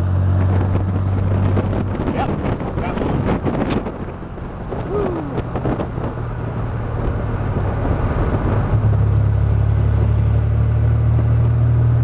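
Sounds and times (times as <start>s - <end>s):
car engine humming: 0.0s - 12.0s
road and wind noise: 0.0s - 12.0s.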